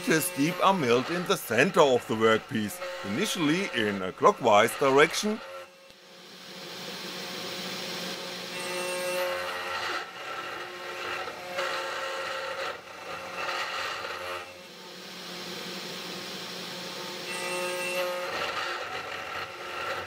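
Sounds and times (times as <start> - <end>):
mill cutting acrylic: 0.0 - 20.0
spindle motor whine: 0.0 - 20.0.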